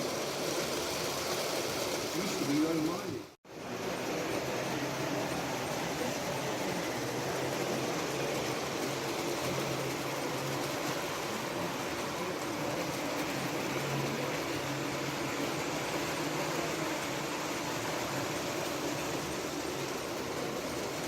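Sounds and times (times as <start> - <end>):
model train wheels rumbling on rail: 0.0 - 21.0.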